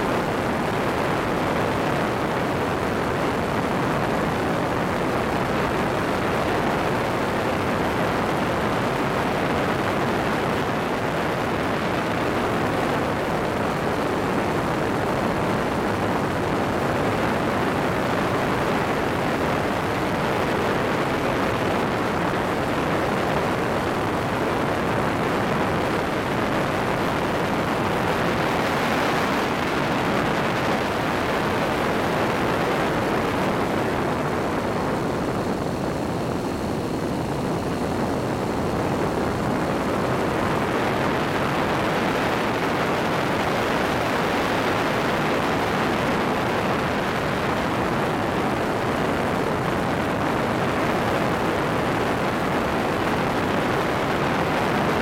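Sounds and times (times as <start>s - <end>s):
engine and propeller running: 0.0s - 55.0s
wind rushing over microphone: 0.0s - 55.0s.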